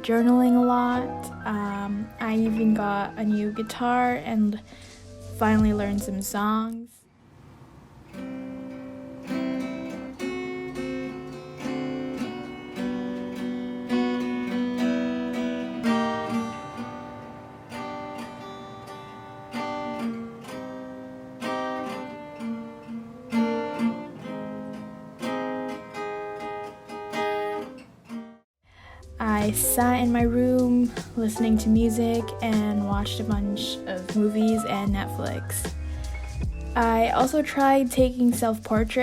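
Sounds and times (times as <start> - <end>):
acoustic guitar strumming chords: 0.0 - 6.4, 8.1 - 28.4, 29.0 - 39.0.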